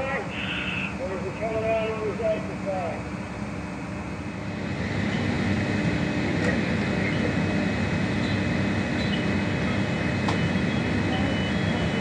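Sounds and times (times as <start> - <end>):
engines droning: 0.0 - 12.0
faint high whine: 0.0 - 12.0.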